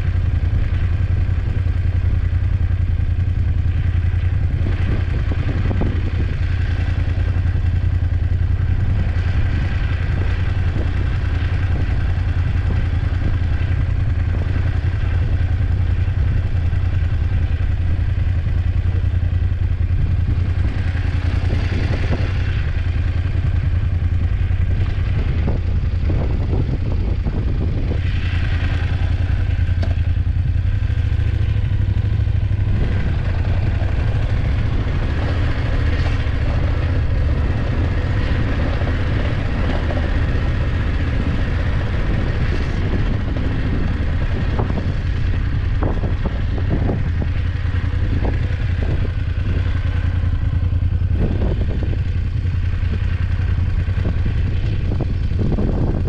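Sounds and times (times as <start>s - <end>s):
clatter: 0.0s - 56.0s
motorcycle engine running: 0.0s - 56.0s.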